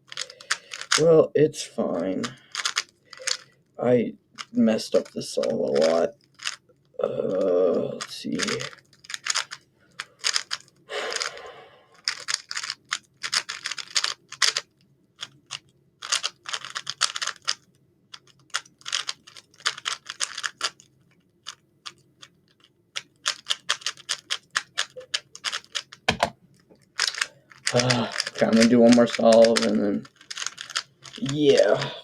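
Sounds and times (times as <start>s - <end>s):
puzzle cube plastic clicks: 0.0s - 1.1s, 1.9s - 3.5s, 4.4s - 6.6s, 7.3s - 31.9s.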